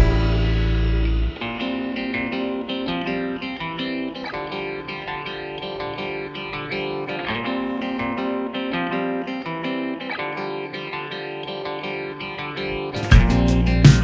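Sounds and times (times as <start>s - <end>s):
plucked guitar music with effects: 0.0s - 14.0s.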